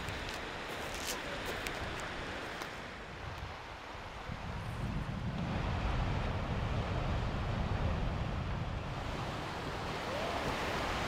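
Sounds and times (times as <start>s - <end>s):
waves breaking on sandy beach: 0.0s - 11.0s
wind blowing across microphone: 0.0s - 11.0s.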